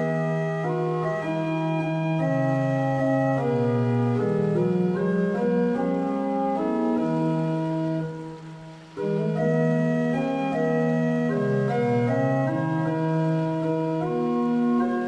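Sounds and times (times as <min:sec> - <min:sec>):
organ playing hymn chords: 0:00.0 - 0:15.0.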